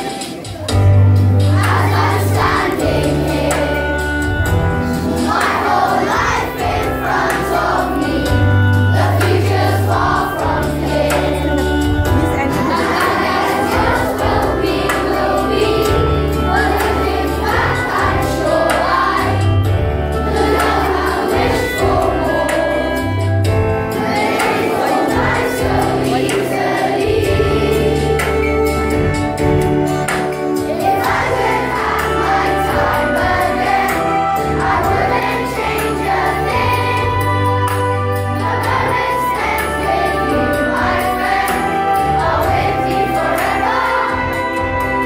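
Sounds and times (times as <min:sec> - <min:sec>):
children's choir singing: 0:00.0 - 0:45.0
instrumental accompaniment: 0:00.0 - 0:45.0.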